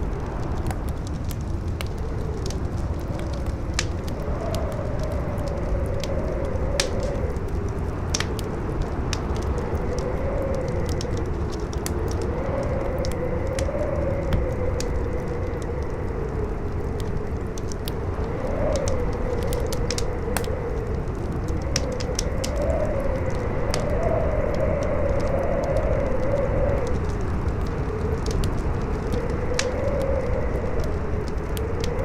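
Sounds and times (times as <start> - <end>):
campfire crackling and popping: 0.0 - 32.0
strong wind howling: 0.0 - 32.0.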